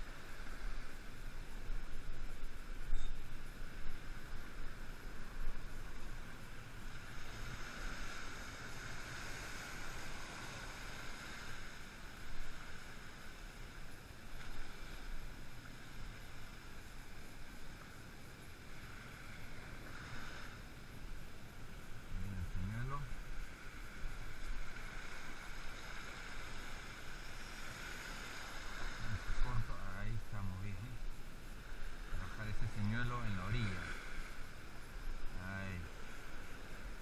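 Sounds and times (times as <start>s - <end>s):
sea surf washing over rocks: 0.0s - 37.0s.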